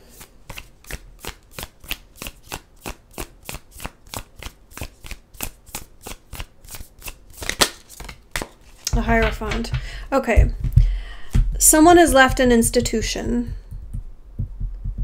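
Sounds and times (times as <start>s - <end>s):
cards being shuffled: 0.0s - 12.4s.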